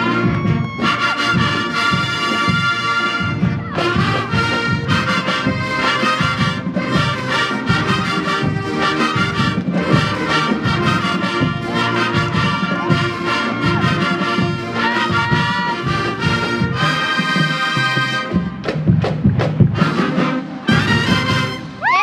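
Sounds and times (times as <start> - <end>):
drums: 0.0 - 22.0
marching band brass tune: 0.0 - 22.0.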